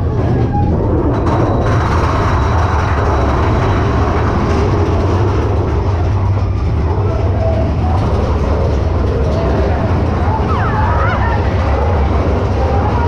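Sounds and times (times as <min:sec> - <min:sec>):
roller coaster wheels rumbling: 0:00.0 - 0:13.0.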